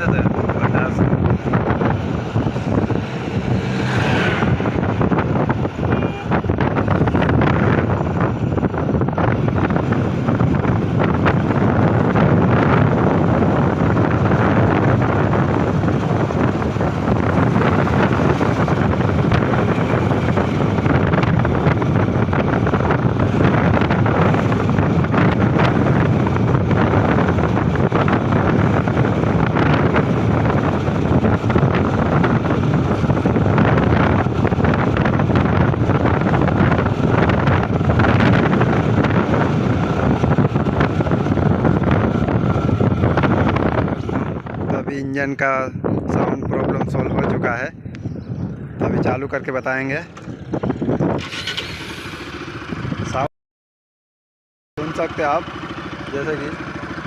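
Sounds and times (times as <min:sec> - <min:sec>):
motorcycle engine running: 0:00.0 - 0:44.7, 0:50.0 - 0:53.3, 0:54.8 - 0:57.0
road noise: 0:00.0 - 0:53.3, 0:54.8 - 0:57.0
wind rushing over microphone: 0:00.0 - 0:53.3.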